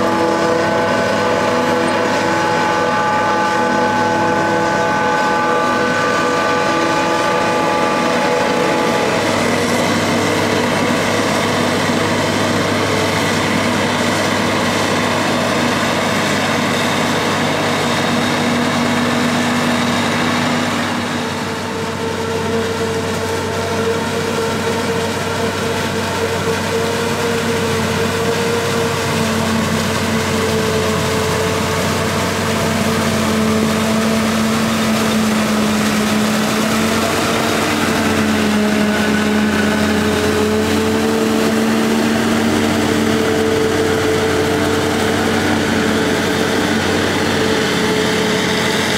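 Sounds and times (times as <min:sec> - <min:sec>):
forage harvester chopping corn: 0:00.0 - 0:48.9.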